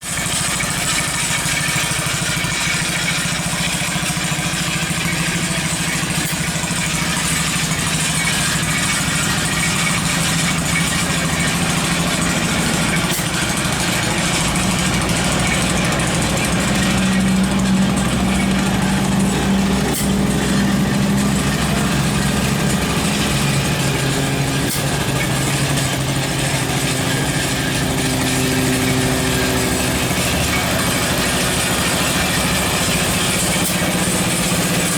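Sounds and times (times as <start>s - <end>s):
small tractor engine running: 0.0s - 34.9s.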